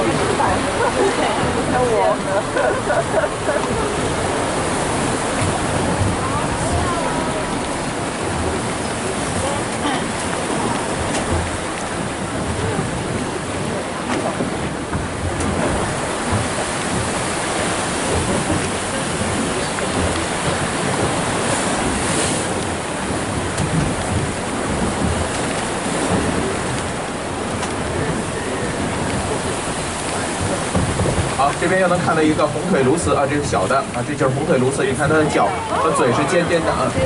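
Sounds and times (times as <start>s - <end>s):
sea waves: 0.0s - 37.0s
wind buffeting microphone: 0.0s - 37.0s.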